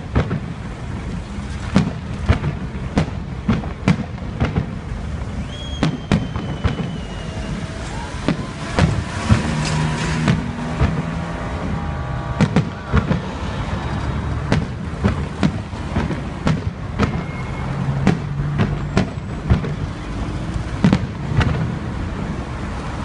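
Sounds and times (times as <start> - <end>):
firework shells bursting: 0.0 - 21.8.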